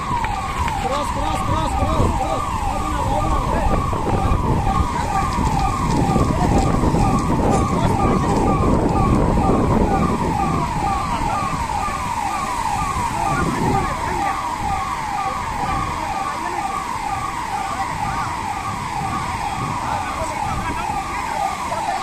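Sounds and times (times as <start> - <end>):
electronic siren sweeping: 0.0 - 22.0.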